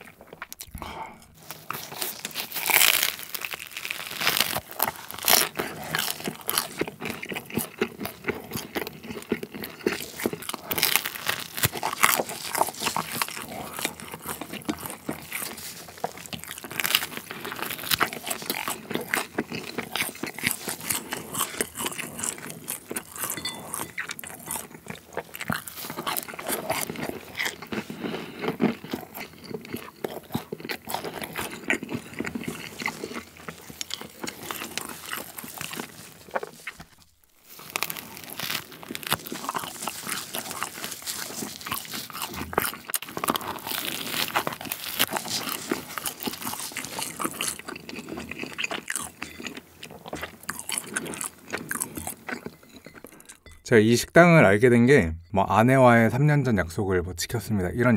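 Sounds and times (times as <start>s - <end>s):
chewing and biting steak: 0.0s - 53.6s.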